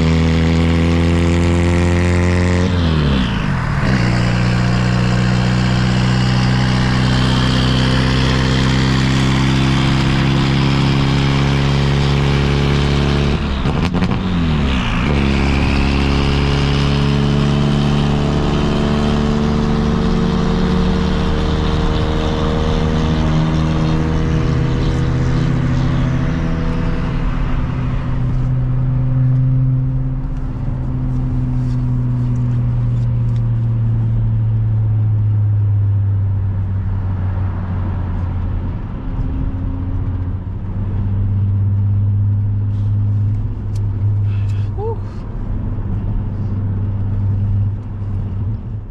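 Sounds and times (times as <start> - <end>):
car engine running and revving: 0.0 - 48.9.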